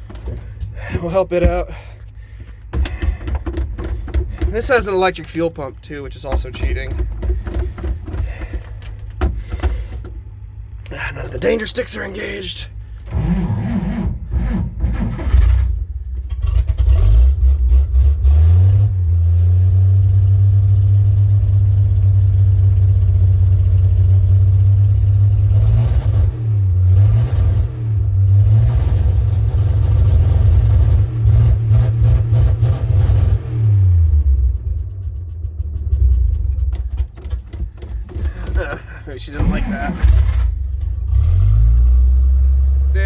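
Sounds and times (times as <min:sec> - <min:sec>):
truck engine starting and revving: 0:00.0 - 0:43.0.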